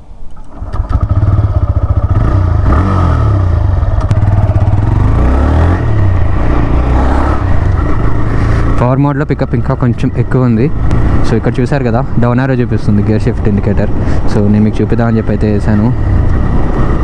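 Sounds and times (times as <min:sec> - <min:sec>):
motorcycle engine accelerating: 0:00.5 - 0:17.0.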